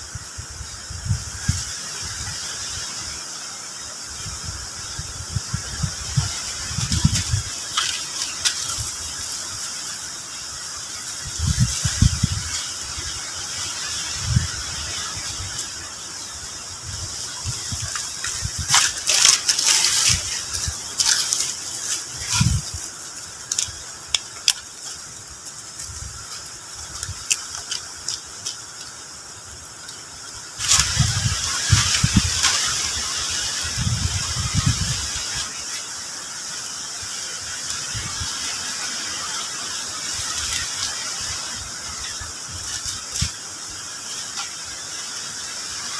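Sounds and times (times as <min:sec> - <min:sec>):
sticks and leaves rustling: 0:00.1 - 0:45.9.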